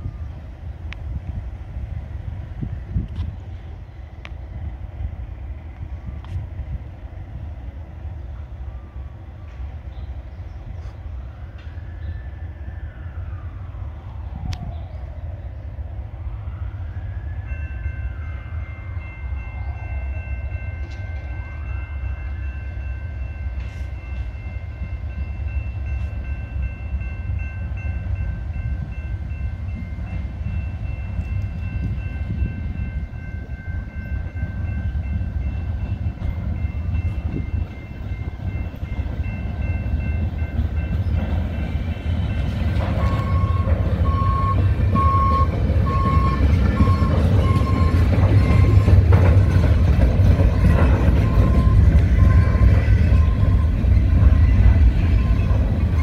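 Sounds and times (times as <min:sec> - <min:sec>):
train engine and wheels rumbling: 0:00.0 - 0:56.0.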